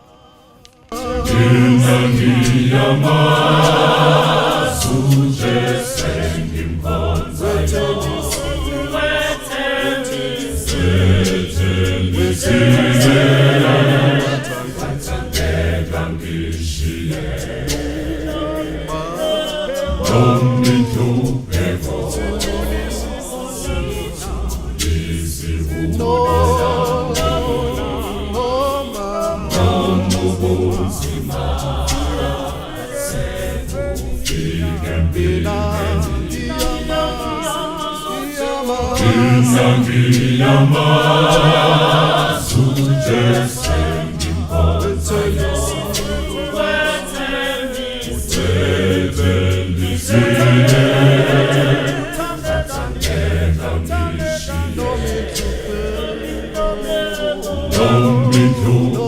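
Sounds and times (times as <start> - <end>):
a cappella choir singing: 0.0 - 59.0
deep bass voices: 1.0 - 37.9, 38.7 - 59.0.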